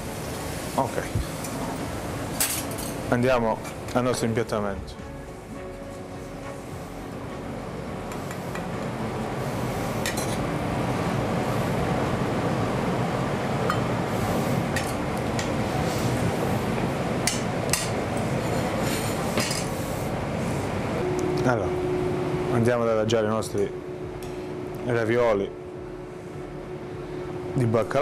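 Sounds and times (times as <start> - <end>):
steady rushing background noise: 0.0 - 28.0.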